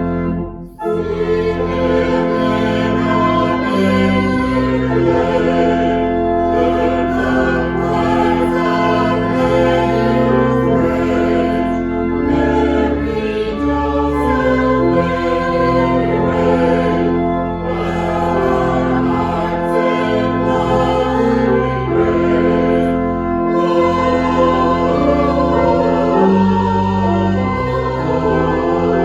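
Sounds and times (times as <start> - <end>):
choir-like voices: 0.0 - 29.0
slow sacred music: 0.0 - 29.0.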